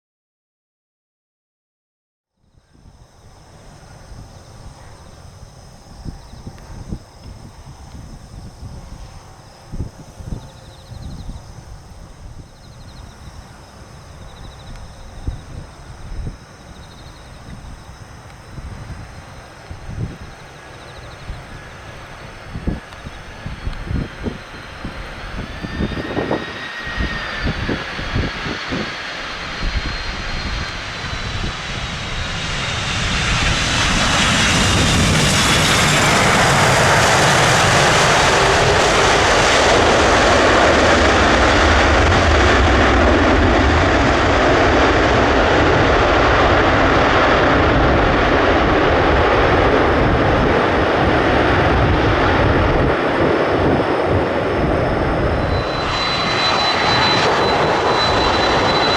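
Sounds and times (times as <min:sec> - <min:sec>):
jet engine roar: 0:02.6 - 0:58.9
wind buffeting microphone: 0:02.6 - 0:58.9.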